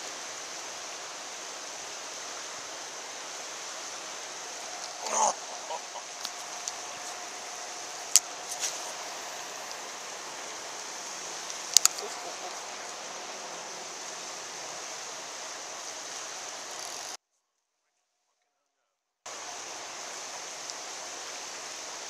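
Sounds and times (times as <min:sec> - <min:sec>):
river water rushing: 0:00.0 - 0:17.2, 0:19.3 - 0:22.0.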